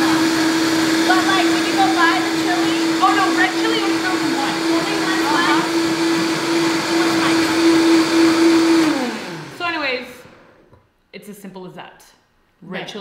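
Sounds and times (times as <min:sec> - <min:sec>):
blender motor whine: 0:00.0 - 0:10.6.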